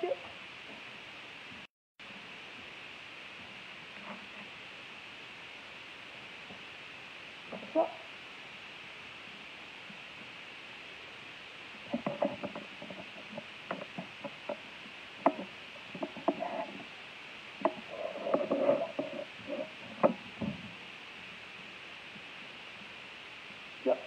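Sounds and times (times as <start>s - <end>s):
background hiss: 0.0s - 24.0s.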